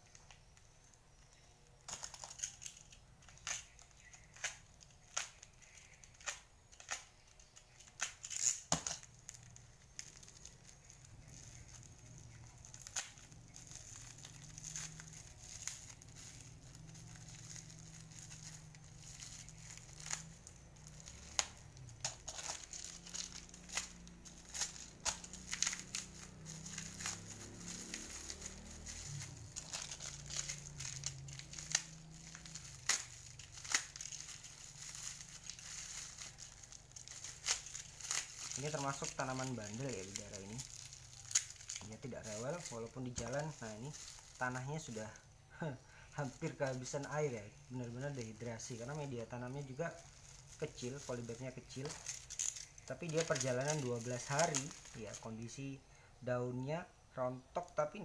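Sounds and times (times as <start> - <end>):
plastic wrap crinkling and tearing: 0.0 - 55.6.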